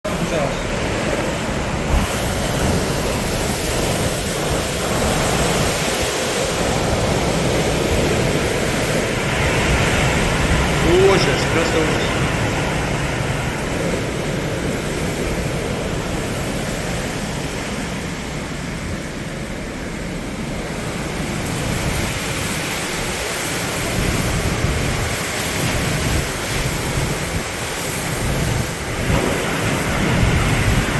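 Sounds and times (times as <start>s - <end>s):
gusty wind buffeting microphone: 0.1s - 30.9s.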